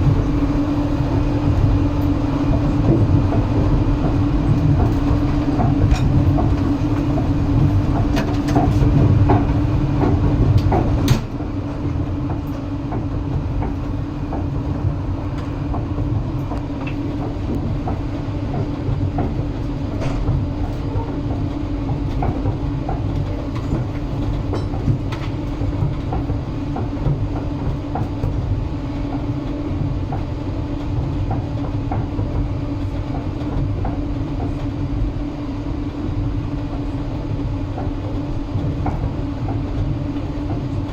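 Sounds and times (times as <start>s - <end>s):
clickety-clack over rail joints: 0.0s - 40.9s
train wheels rumbling on rails: 0.0s - 40.9s.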